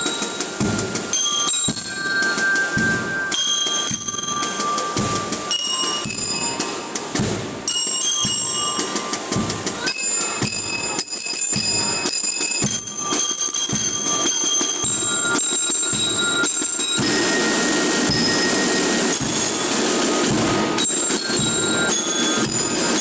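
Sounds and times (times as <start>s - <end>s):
bell lyres playing melody: 0.0s - 23.0s
marching drums beat: 0.0s - 23.0s.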